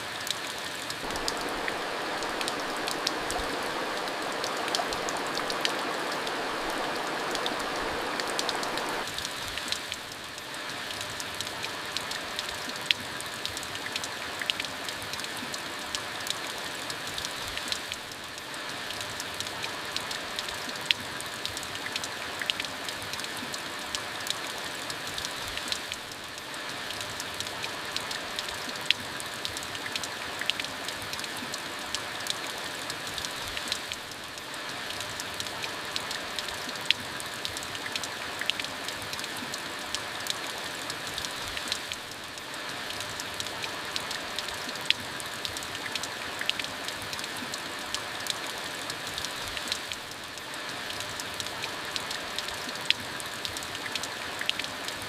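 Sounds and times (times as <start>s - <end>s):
raindrops ticking on a surface: 0.0s - 55.0s
steady rain hissing: 0.0s - 55.0s.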